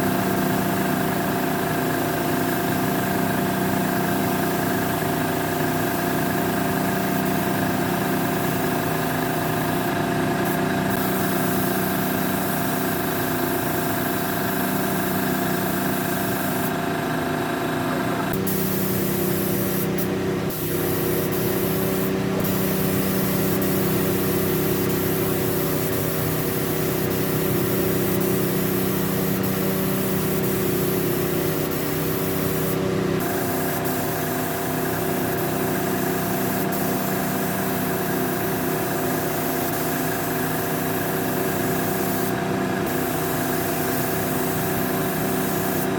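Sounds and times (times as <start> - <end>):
air spray gun hissing: 0.0 - 16.8, 18.3 - 45.9.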